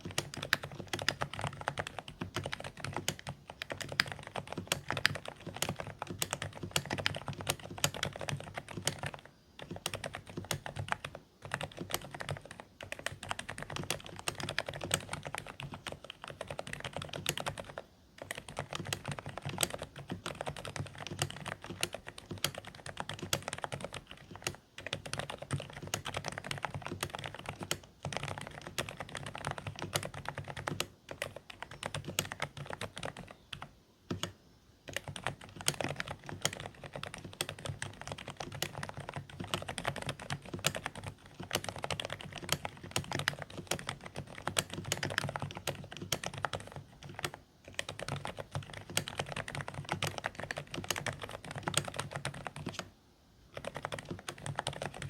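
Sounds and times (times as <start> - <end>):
typing on mechanical keyboard: 0.0 - 52.9, 53.5 - 55.0.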